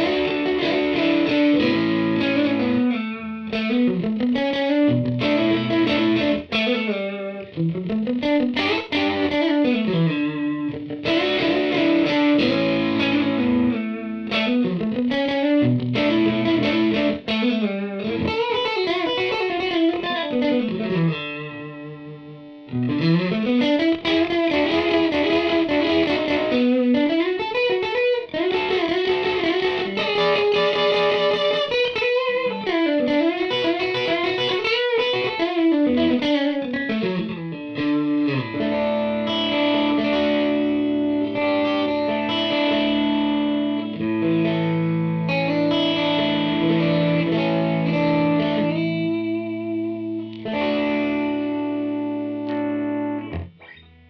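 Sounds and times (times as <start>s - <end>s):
distorted electric guitar lead: 0.0s - 54.0s.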